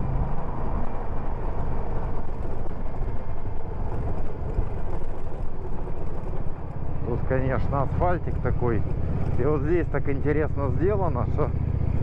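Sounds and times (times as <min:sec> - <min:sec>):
motorcycle engine rumble: 0:00.0 - 0:12.0
road and wind noise: 0:00.0 - 0:12.0.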